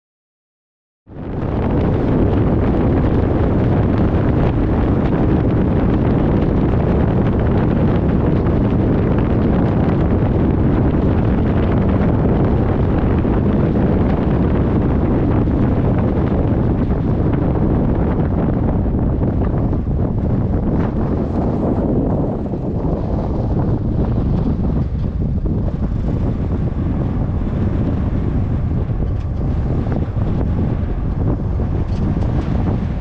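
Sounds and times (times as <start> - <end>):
wind buffeting microphone: 1.1 - 33.0
vehicle road noise: 1.2 - 33.0.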